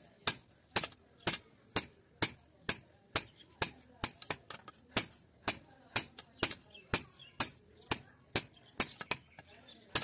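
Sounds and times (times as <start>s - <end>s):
hammer striking chisel on steel: 0.0s - 10.0s.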